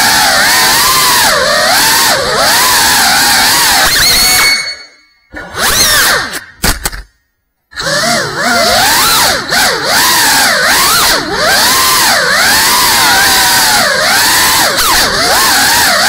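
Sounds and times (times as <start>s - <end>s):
quadcopter motors whining: 0.0s - 6.5s, 7.7s - 16.0s.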